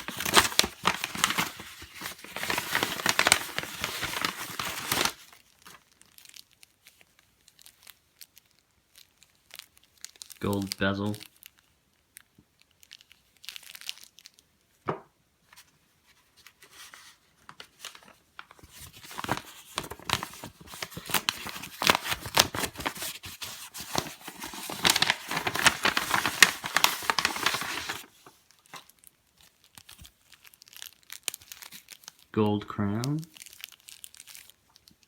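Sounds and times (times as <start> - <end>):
packaging crinkling and tearing: 0.0 - 14.5, 16.2 - 32.3, 33.0 - 35.0.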